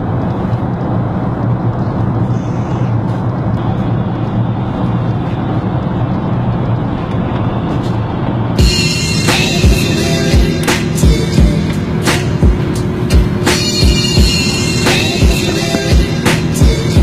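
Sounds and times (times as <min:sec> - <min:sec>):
airliner cabin rushing noise: 0:00.0 - 0:17.0
low hum: 0:00.0 - 0:17.0.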